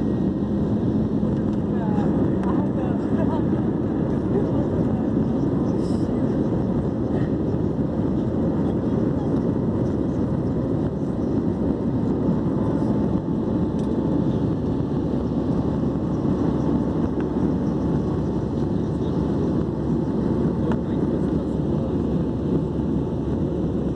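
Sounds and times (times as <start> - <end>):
aircraft cabin drone: 0.0 - 23.9.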